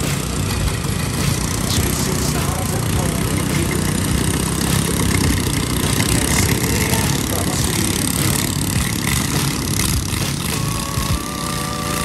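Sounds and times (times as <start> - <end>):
boat engine running: 0.0 - 12.0
propeller churning water: 0.0 - 12.0.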